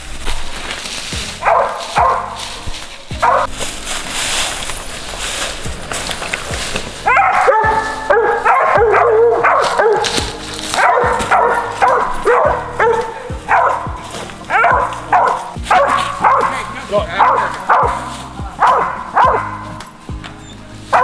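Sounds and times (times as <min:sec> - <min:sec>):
dogs barking: 0:01.2 - 0:03.6, 0:06.5 - 0:21.0.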